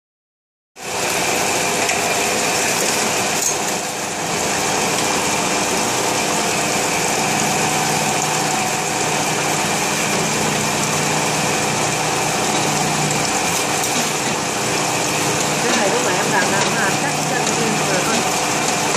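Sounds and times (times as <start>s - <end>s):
machine motor hum: 0.8s - 18.9s.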